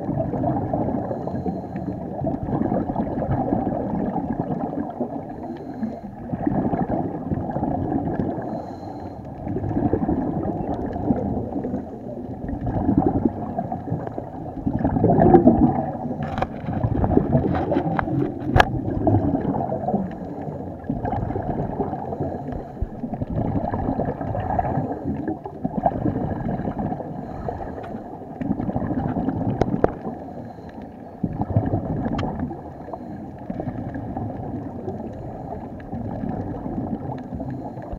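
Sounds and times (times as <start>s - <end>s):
underwater regulator bubbling: 0.0s - 37.9s.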